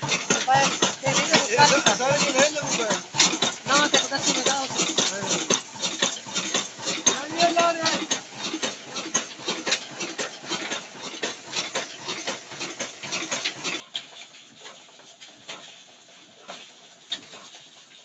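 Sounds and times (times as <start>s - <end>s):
hiss with clicks: 0.0s - 18.0s
stationary engine clattering: 0.0s - 18.0s.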